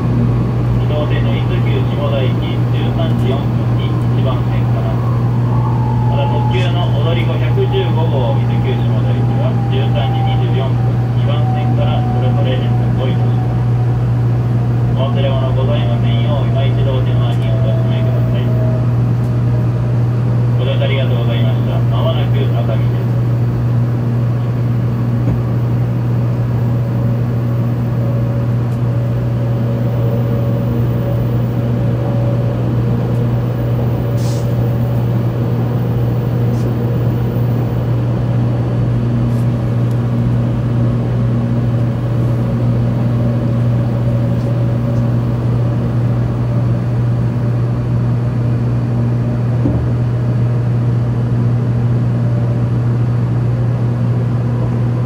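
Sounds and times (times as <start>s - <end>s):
high-speed train rumble and hum: 0.0s - 55.0s.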